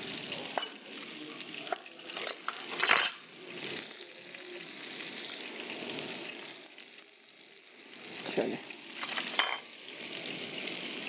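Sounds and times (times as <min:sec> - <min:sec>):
food sizzling on a grill pan: 0:00.0 - 0:11.0.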